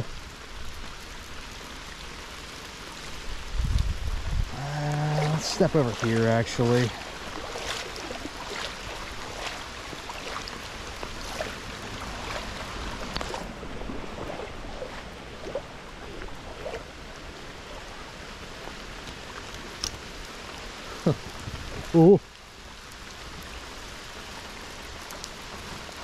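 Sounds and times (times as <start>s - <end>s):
creek water running: 0.0s - 26.0s
rain falling on water: 0.0s - 26.0s.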